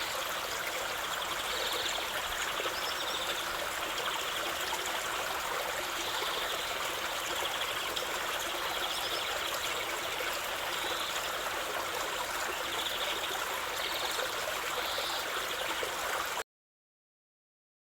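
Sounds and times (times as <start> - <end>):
stream water babbling: 0.0 - 16.4.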